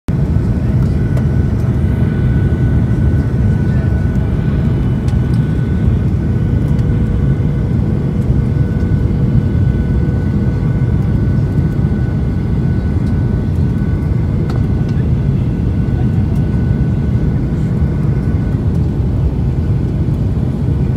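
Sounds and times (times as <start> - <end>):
jet engines rumbling: 0.1 - 20.9.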